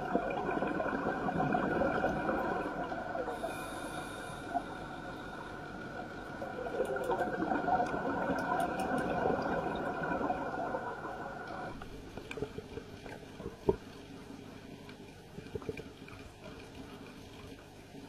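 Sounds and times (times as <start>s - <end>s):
faint crackles: 0.0s - 18.0s
underwater bubbling and swishing: 0.0s - 18.0s.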